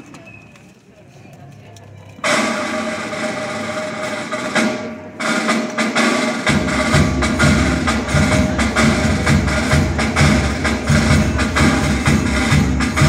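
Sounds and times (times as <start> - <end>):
low bass parts: 1.8 - 13.0
wind band playing: 2.2 - 13.0.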